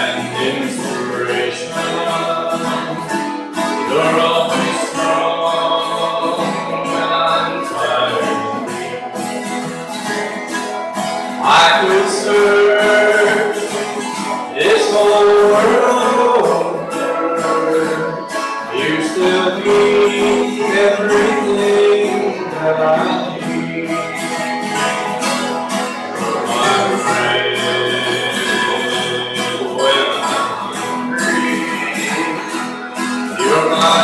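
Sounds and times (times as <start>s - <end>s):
picked acoustic guitar melody: 0.0s - 34.0s
strummed guitar chords: 0.0s - 34.0s.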